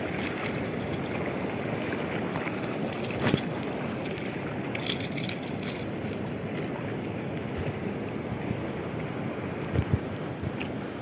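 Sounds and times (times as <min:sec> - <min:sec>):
surf on rocky shore: 0:00.0 - 0:11.0
wind: 0:00.0 - 0:11.0.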